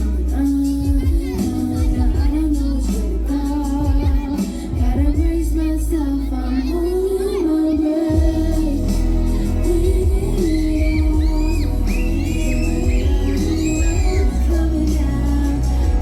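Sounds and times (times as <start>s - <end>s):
deep steady bass: 0.0s - 7.4s, 8.1s - 16.0s
woman singing: 0.0s - 16.0s
drum beat: 0.1s - 5.4s, 8.2s - 16.0s.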